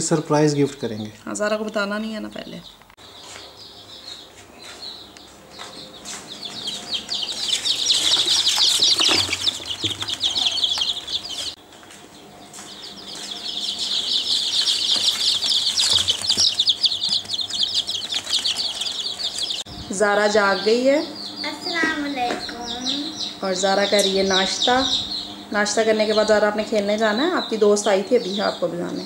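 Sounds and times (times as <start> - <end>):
chicks peeping: 0.1 - 29.0.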